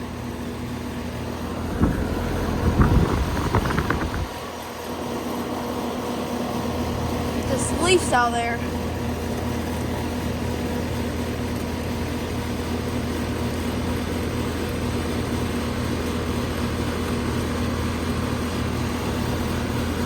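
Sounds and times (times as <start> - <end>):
air conditioner unit humming: 0.0 - 20.0.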